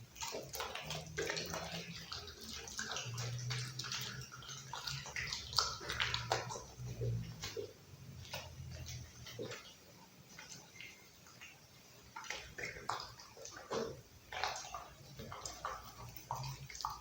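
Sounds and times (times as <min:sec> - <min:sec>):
dog chewing meat and bone: 0:00.2 - 0:11.5, 0:12.1 - 0:17.0.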